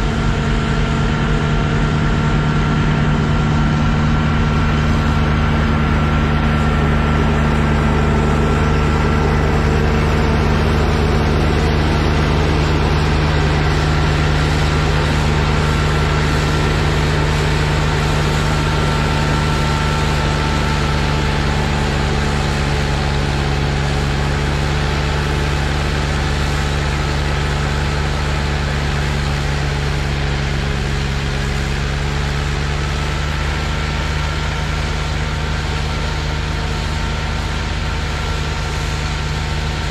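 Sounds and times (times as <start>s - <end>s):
diesel engine drone: 0.0s - 39.9s
snowblower rushing hiss: 0.0s - 39.9s.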